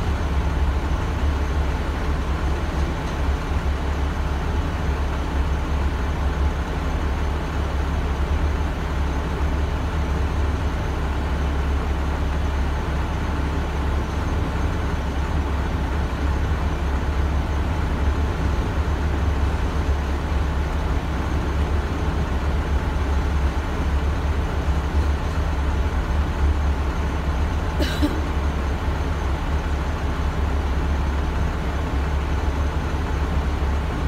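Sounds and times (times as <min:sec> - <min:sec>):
freight train cars rolling: 0:00.0 - 0:34.0
vehicle engine idling: 0:00.0 - 0:34.0.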